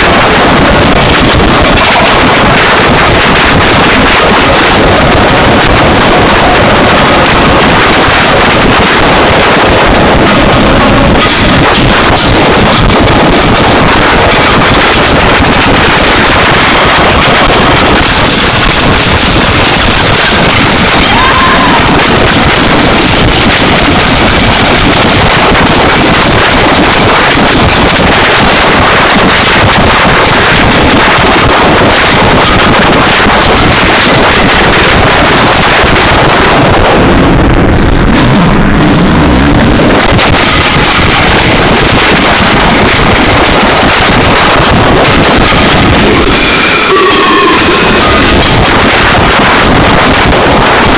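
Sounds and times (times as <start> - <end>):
harsh distorted noise music: 0.0 - 50.9.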